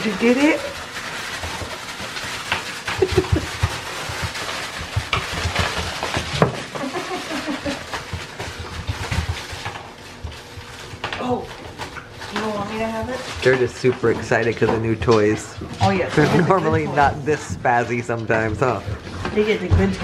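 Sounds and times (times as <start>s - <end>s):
rustling and scuffling: 0.0s - 20.0s.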